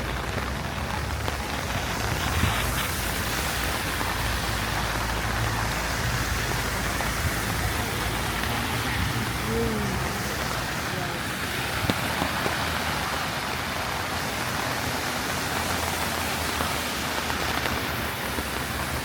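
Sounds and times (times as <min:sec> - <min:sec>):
heavy rain on ground: 0:00.0 - 0:19.0.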